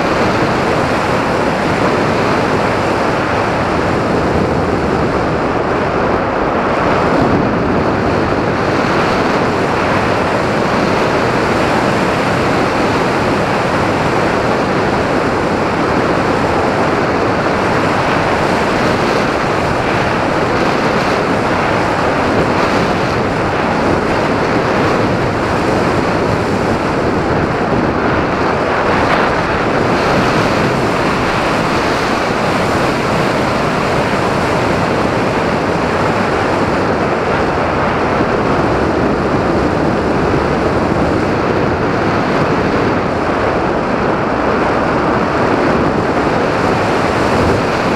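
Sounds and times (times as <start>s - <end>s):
wind rushing across microphone: 0.0s - 47.9s.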